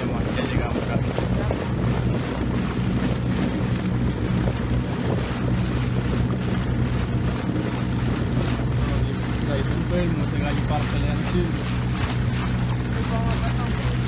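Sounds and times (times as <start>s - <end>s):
boat engine humming: 0.0s - 14.0s
water splashing: 0.0s - 14.0s
wind buffeting microphone: 0.0s - 14.0s.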